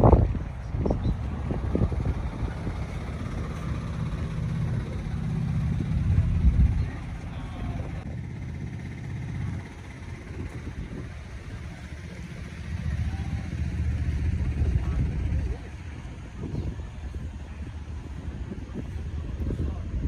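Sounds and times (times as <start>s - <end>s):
truck diesel engine rumbling: 0.0s - 20.0s.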